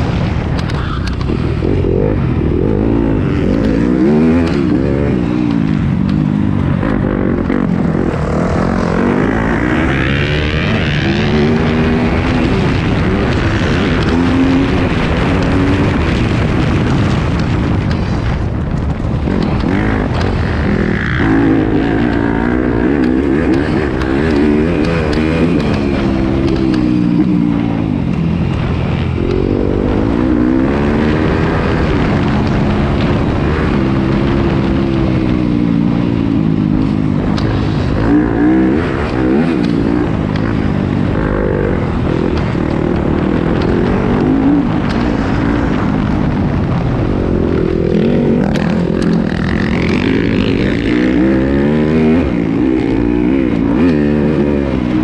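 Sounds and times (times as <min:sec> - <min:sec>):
motocross engine revving: 0:01.1 - 0:17.9, 0:19.2 - 0:55.0.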